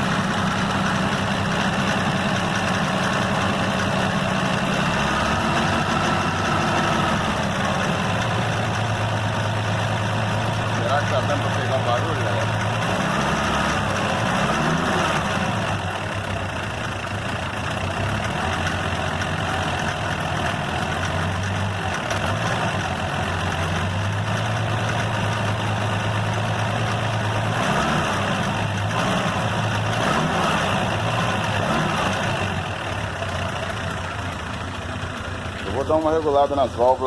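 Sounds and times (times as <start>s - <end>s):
car engine idling: 0.0s - 37.0s
engine knocking noise: 0.0s - 37.0s.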